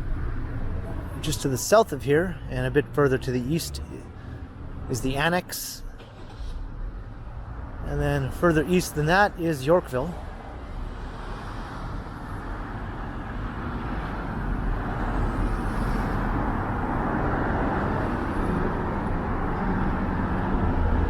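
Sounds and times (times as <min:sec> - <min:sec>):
cars passing by: 0:00.0 - 0:21.0
road rumble: 0:00.0 - 0:21.0.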